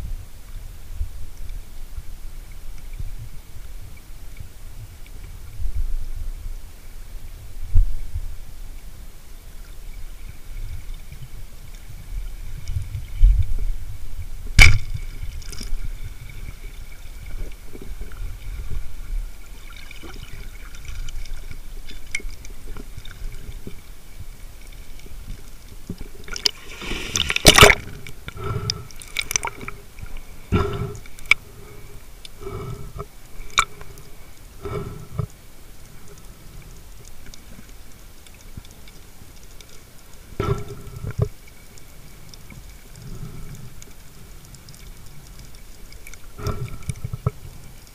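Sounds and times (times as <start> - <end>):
low underwater wash: 0.0 - 47.9.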